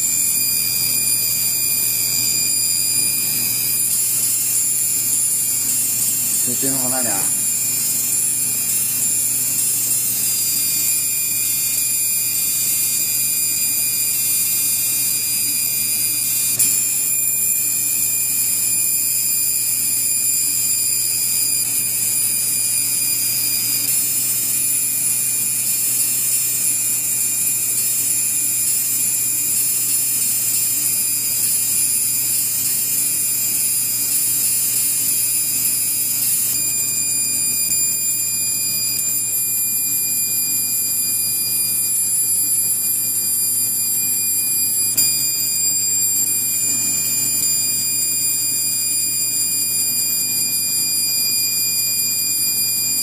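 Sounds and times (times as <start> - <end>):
high-pitched electronic whine: 0.0 - 53.0.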